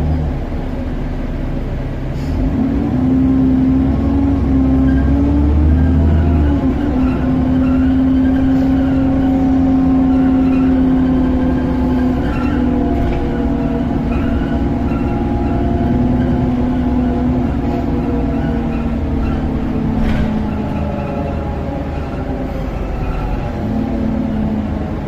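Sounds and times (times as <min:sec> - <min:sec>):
bus drivetrain whine: 0:00.0 - 0:25.0
bus engine rumble: 0:00.0 - 0:25.0.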